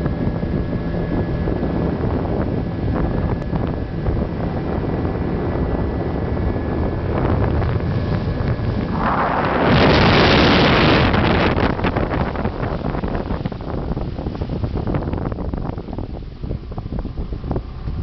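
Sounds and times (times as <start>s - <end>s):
boat engine drone: 0.0s - 18.0s
wind buffeting microphone: 0.0s - 18.0s.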